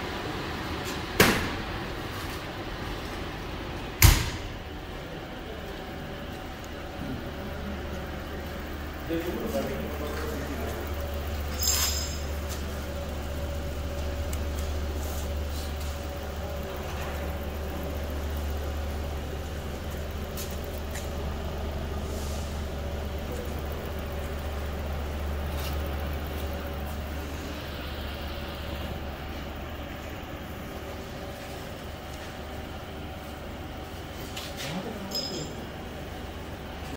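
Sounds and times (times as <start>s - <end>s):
oven motors humming: 0.0s - 36.9s.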